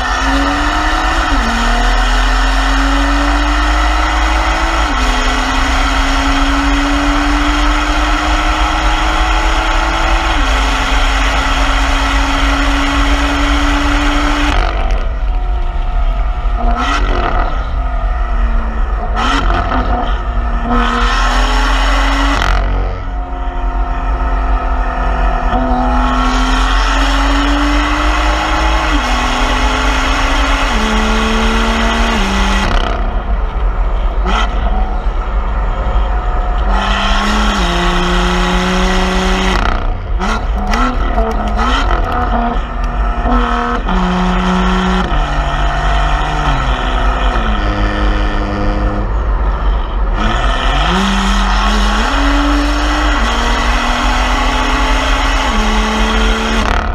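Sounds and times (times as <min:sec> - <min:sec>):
car exhaust accelerating through gears: 0:00.0 - 0:56.9.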